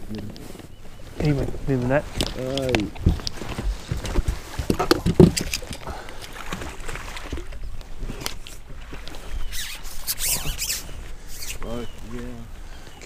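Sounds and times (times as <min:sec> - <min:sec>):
clothing rustle: 0:00.2 - 0:12.4.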